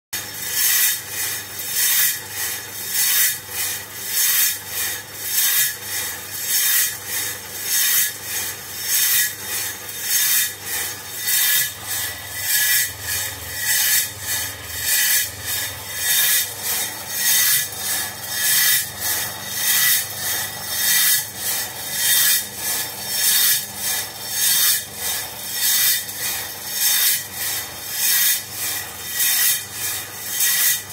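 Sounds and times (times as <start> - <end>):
coffee beans rattling in roasting drum: 0.2 - 30.9.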